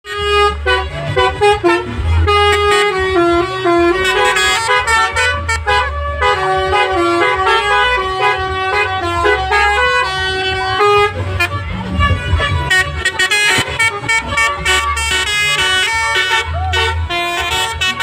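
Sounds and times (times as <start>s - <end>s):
bus engine rumble: 0.0s - 18.0s
multi-tone musical bus horn: 0.0s - 18.0s.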